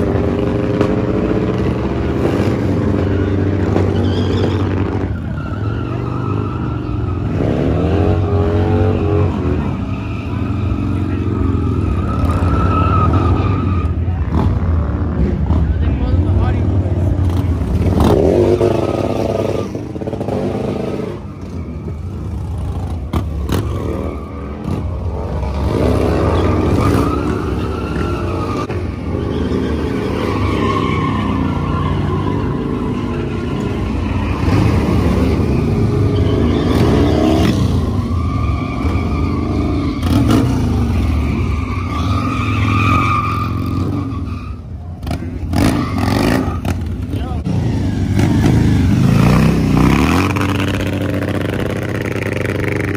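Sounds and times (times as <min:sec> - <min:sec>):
motorcycle engines revving: 0:00.0 - 0:52.9.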